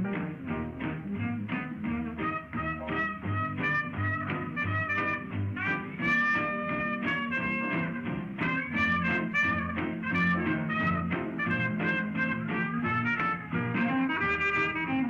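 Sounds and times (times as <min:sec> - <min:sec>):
swing jazz music with brass: 0:00.0 - 0:15.0.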